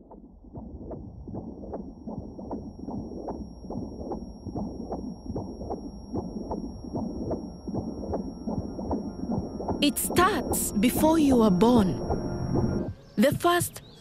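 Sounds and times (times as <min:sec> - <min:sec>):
low steady rumble: 0:00.0 - 0:13.4
fetal heartbeat whooshing pulses: 0:00.0 - 0:14.0.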